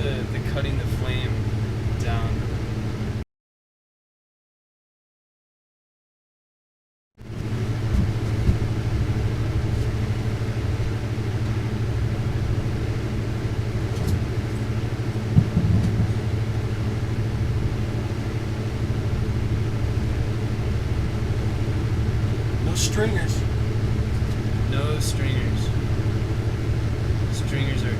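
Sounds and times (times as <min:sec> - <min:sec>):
torch flame roaring: 0:00.0 - 0:03.2, 0:07.2 - 0:27.9
ventilation hum: 0:00.0 - 0:03.2, 0:07.2 - 0:27.9.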